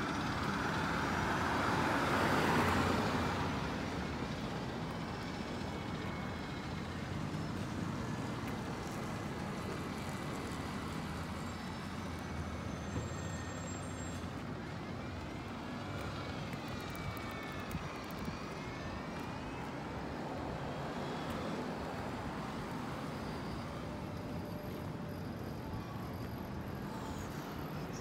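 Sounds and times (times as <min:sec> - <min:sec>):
road traffic noise: 0:00.0 - 0:28.0
vehicle whine rising and falling: 0:00.3 - 0:28.0.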